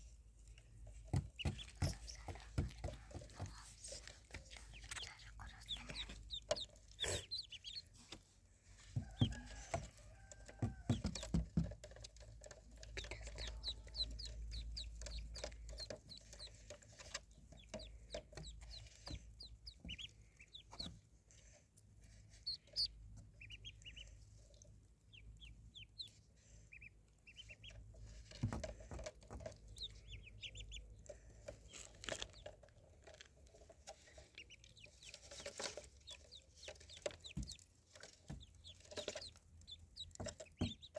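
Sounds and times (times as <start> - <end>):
ducklings peeping: 1.1 - 21.0, 22.0 - 32.7, 33.8 - 40.9.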